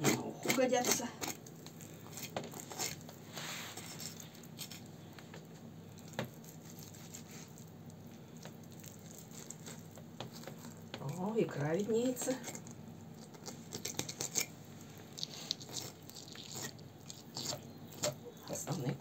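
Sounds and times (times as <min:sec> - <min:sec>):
knife squishing through raw fish: 0:00.0 - 0:05.0, 0:05.9 - 0:19.0.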